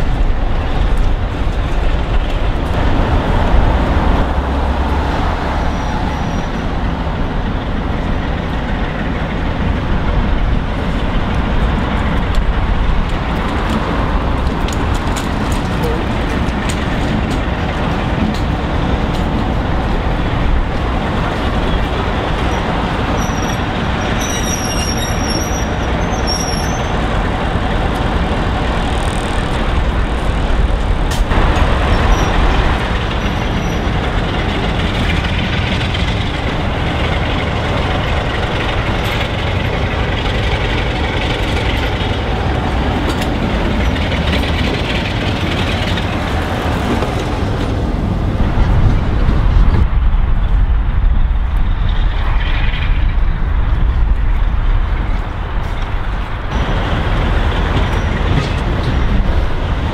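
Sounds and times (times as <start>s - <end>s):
diesel locomotive engine rumbling: 0.0s - 59.9s.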